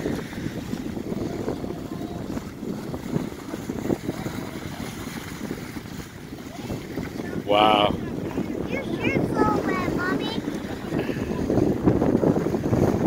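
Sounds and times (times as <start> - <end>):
horses splashing in water: 0.0 - 13.0
small waves washing ashore: 0.0 - 13.0
wind buffeting microphone: 0.0 - 13.0.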